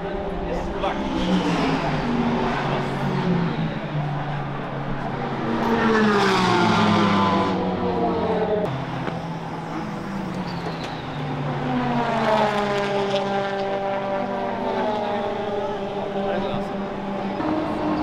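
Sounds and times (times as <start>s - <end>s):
race cars passing: 0.0s - 18.0s.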